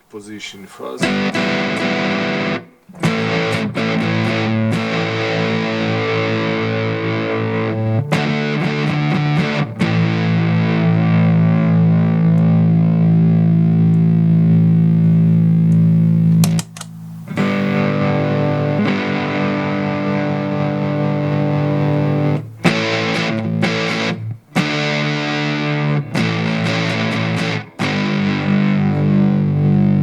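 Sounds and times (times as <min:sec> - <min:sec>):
distorted electric guitar chords: 0:01.0 - 0:16.6, 0:17.3 - 0:30.0.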